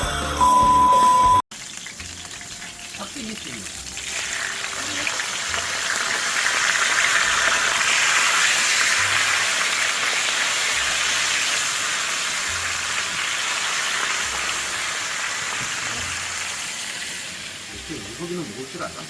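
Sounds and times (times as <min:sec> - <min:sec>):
pork sizzling in a pot: 0:01.5 - 0:19.0.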